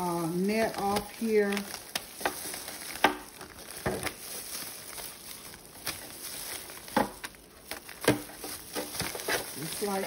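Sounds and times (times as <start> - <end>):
foil pan crinkling: 0.0 - 10.0
plastic wrapping crinkling: 0.0 - 10.0.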